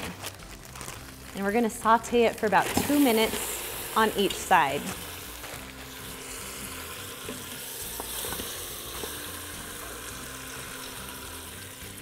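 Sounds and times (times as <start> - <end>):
chicken sizzling in a pot: 2.0 - 12.0.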